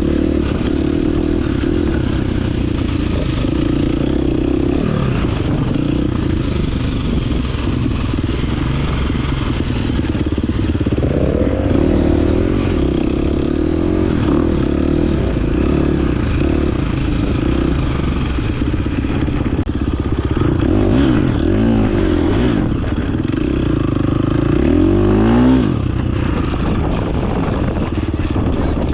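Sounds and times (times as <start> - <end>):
dirt bike engine revving: 0.0 - 27.1.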